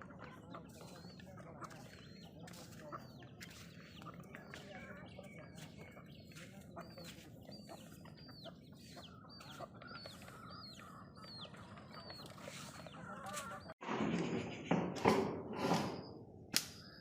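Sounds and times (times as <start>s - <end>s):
chickens calling: 0.0s - 13.8s.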